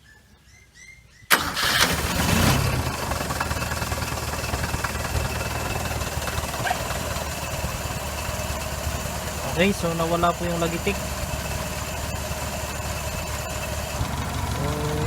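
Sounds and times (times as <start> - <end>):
engine starting and idling: 1.3 - 15.0.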